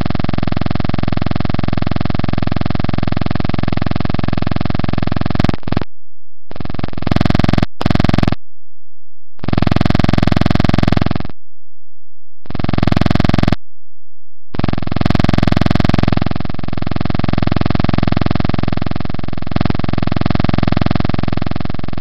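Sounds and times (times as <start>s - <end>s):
electronic buzz: 0.0s - 8.5s, 9.4s - 11.4s, 12.4s - 13.7s, 14.5s - 22.0s.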